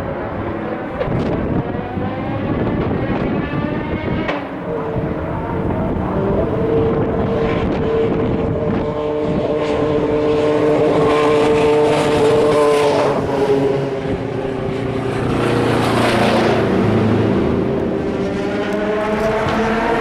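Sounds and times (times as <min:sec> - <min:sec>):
race cars passing at speed: 0:00.0 - 0:20.0.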